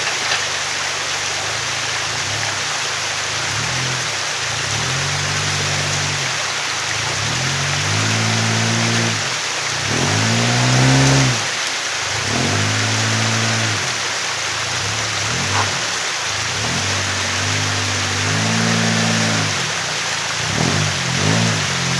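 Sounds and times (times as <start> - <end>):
stream water rushing: 0.0 - 21.9
truck engine revving: 0.0 - 21.9.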